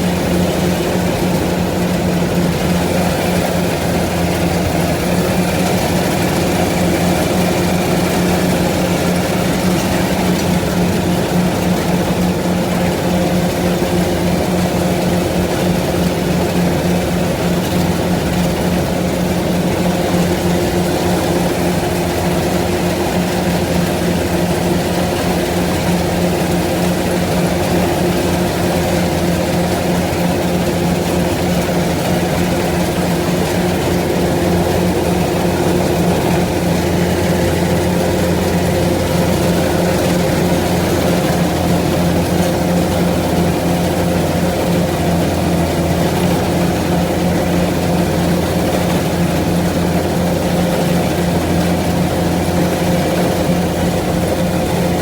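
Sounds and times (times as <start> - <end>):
heavy machine engine droning: 0.0 - 55.0.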